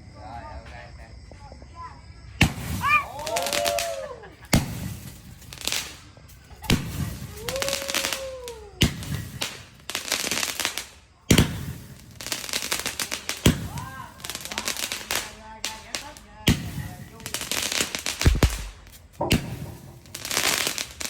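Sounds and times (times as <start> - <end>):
fireworks bangs: 2.4 - 3.8, 4.5 - 21.0
fireworks crackling: 2.4 - 21.0.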